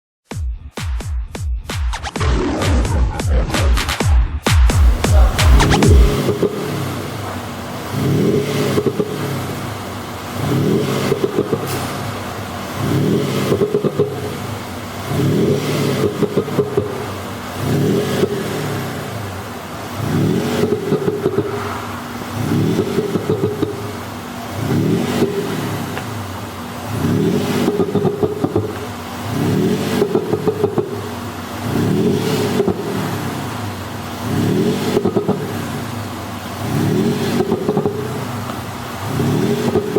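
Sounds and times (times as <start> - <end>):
car engine revving with exhaust pops: 0.3 - 39.9.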